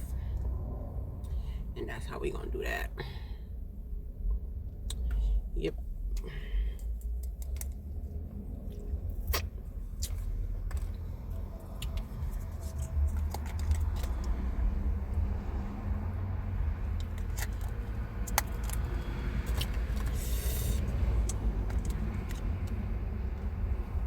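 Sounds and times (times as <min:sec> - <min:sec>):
low rumble inside a car: 0:00.0 - 0:24.0.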